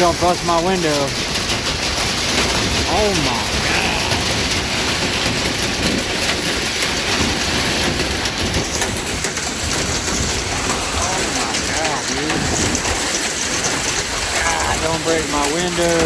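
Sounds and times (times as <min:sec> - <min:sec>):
heavy rain and hail: 0:00.0 - 0:16.0.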